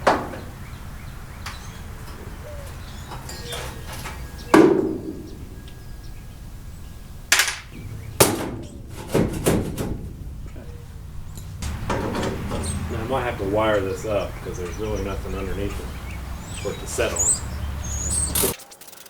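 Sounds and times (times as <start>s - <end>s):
tools knocking on metal: 0.0s - 17.5s.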